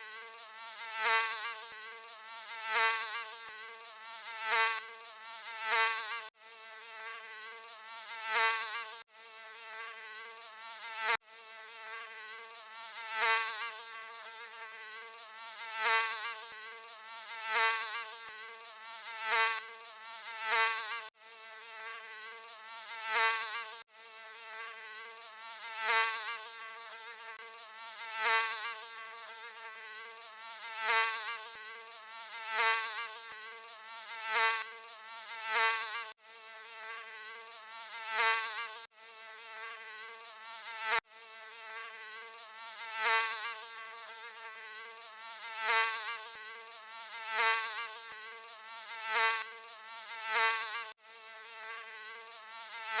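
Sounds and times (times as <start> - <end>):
mosquito buzzing: 0.0 - 53.0.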